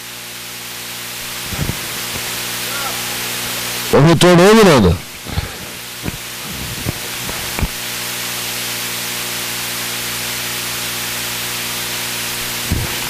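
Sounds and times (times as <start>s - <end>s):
electrical hiss: 0.0s - 13.0s
low mains hum: 0.0s - 13.0s.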